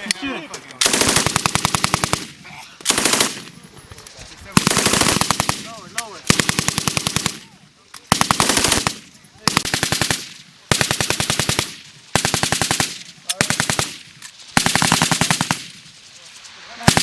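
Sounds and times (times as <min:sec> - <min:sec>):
machine gun firing bursts: 0:00.8 - 0:03.5, 0:04.5 - 0:15.9, 0:16.8 - 0:17.0.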